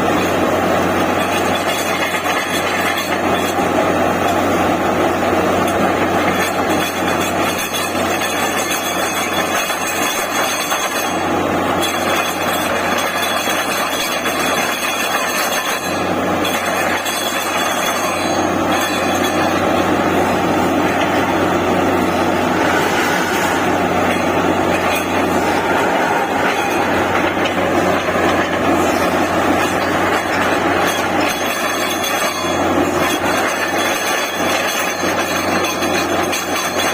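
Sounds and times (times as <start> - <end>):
drilling rig mechanical din: 0.0 - 36.9.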